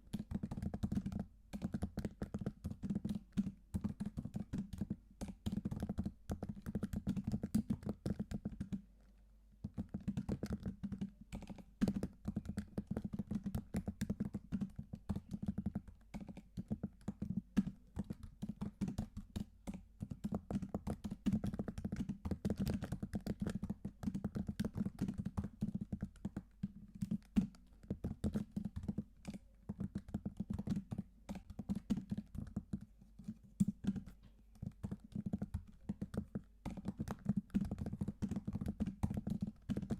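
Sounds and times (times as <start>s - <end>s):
computer keyboard typing: 0.1s - 8.8s, 9.6s - 39.9s.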